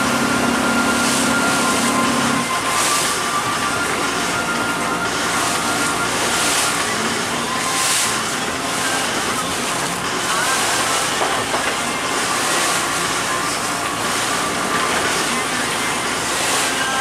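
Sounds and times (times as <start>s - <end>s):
boat engine running: 0.0s - 17.0s
choppy sea water: 0.0s - 17.0s.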